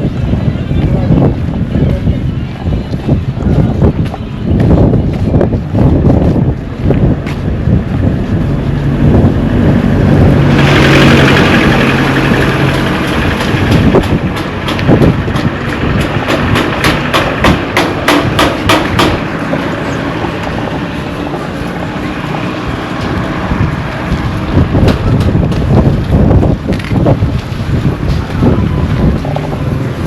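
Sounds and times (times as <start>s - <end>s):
wind buffeting microphone: 0.0s - 30.0s
motor vehicle passing: 5.8s - 30.0s.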